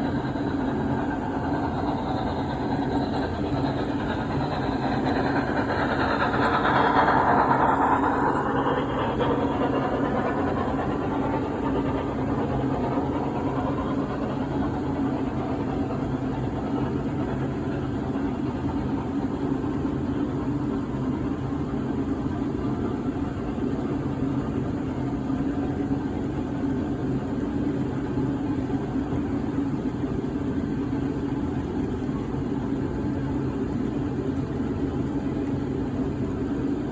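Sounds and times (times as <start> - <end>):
model train humming: 0.0 - 36.9.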